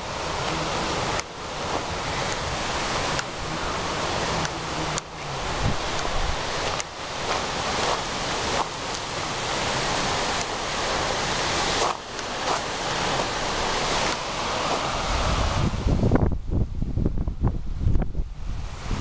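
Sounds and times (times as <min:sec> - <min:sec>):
surf breaking on rocky shore: 0:00.0 - 0:16.2
wind buffeting microphone: 0:00.0 - 0:19.0.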